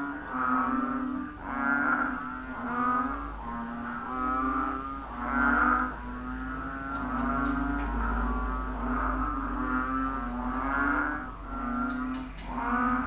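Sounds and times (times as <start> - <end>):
low droning hum: 2.1 - 13.0.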